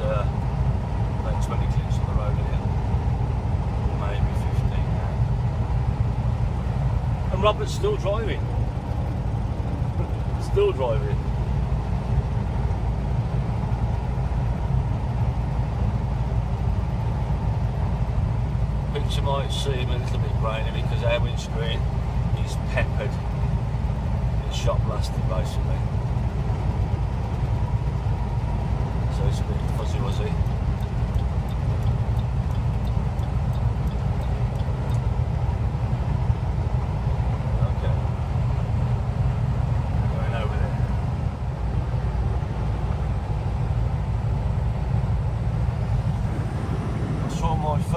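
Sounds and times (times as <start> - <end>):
truck engine and road rumble: 0.0 - 47.9.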